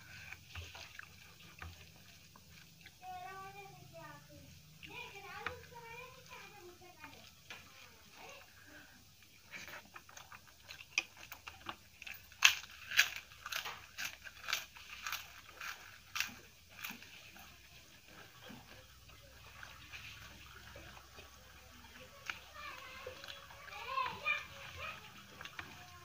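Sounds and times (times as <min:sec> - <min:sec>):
papadam crunching: 0:00.0 - 0:26.0.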